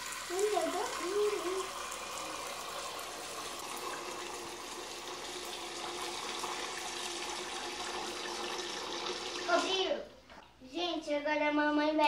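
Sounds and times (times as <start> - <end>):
tap water filling a pot: 0.0 - 10.6.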